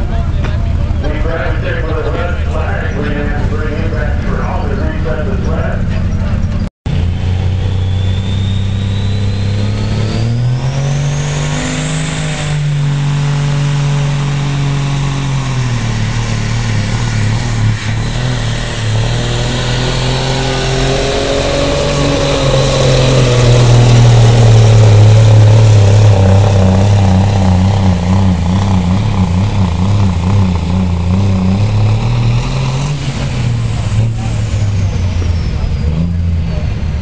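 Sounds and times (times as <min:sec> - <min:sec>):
diesel engine under heavy load: 0:00.0 - 0:37.0.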